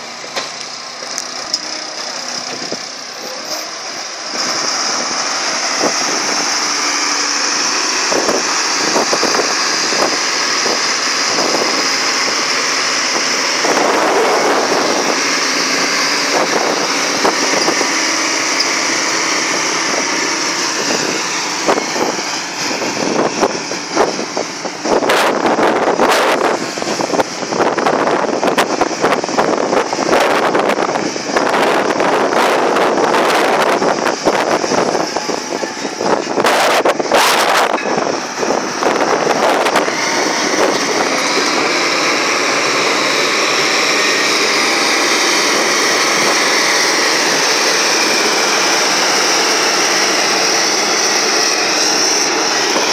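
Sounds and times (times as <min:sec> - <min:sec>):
excavator engine running: 0:00.0 - 0:52.9
high whine: 0:00.0 - 0:52.9.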